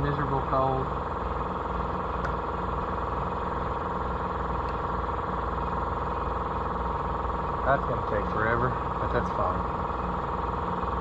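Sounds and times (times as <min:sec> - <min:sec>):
air compressor droning: 0:00.0 - 0:11.0.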